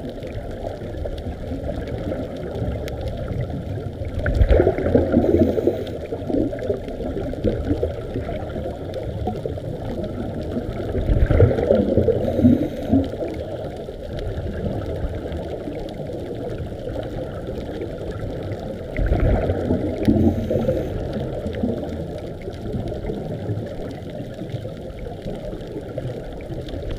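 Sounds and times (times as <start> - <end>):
low underwater noise: 0.0 - 26.9
underwater exhaled bubbling: 0.0 - 26.9.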